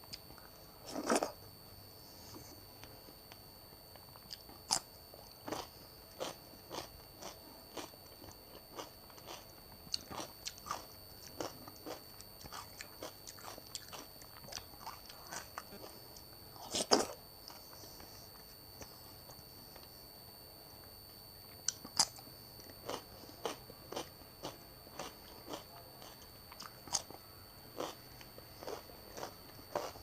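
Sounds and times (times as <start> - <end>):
crunching and chewing cucumber: 0.1 - 1.4, 2.8 - 19.9, 21.6 - 30.0.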